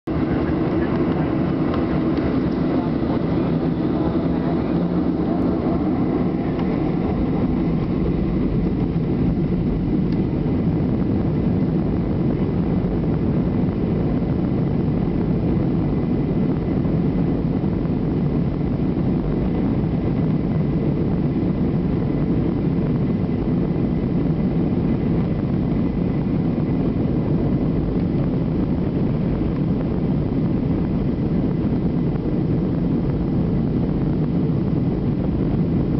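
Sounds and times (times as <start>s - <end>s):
jet engines at takeoff thrust: 0.1s - 35.9s.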